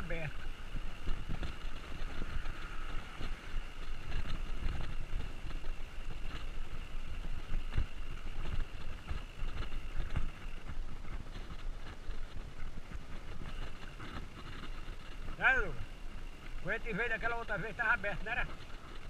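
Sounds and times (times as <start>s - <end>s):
bicycle rattling over cobblestones: 0.0s - 19.0s.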